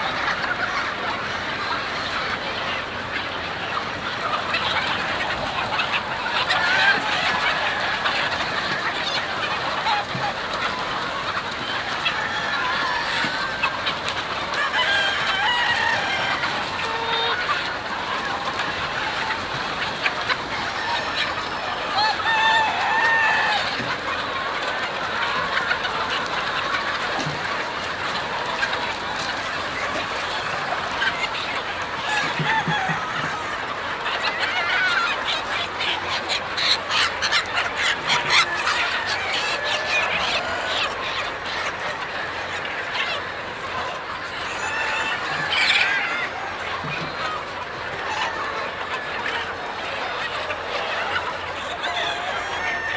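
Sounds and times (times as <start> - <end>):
flock of chickens calling: 0.0 - 52.9.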